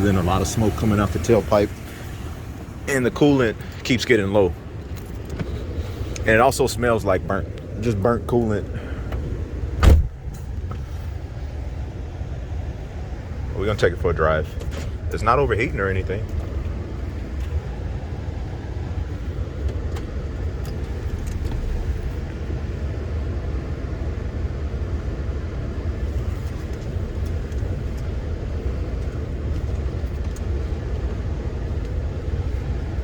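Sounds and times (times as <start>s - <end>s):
pickup truck engine rumbling: 0.0s - 33.0s.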